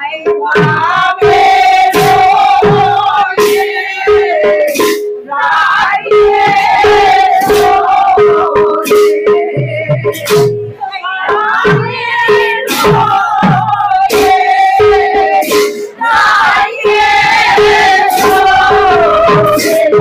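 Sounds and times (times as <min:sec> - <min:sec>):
women singing together: 0:00.0 - 0:20.0
barrel drum strokes: 0:00.3 - 0:20.0.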